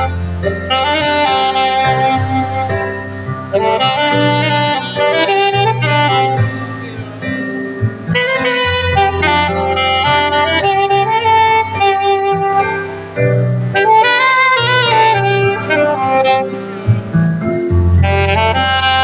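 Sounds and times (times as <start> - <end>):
low bass accompaniment: 0.0 - 19.0
saxophone melody: 0.0 - 19.0.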